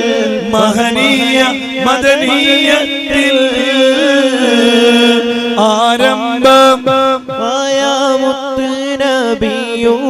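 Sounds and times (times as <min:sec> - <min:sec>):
person singing chant-like melody: 0:00.0 - 0:10.0.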